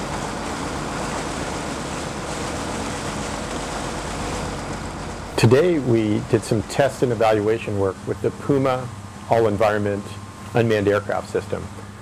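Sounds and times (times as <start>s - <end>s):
wind and water rushing: 0.0s - 10.4s
boat engine humming: 0.0s - 12.0s.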